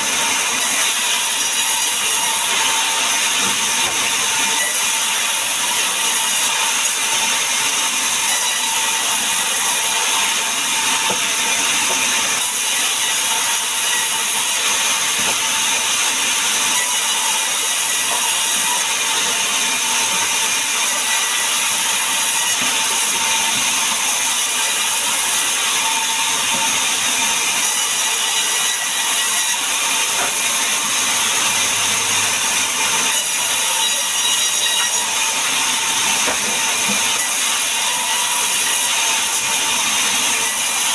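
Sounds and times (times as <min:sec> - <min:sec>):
band saw cutting through log: 0:00.0 - 0:40.9.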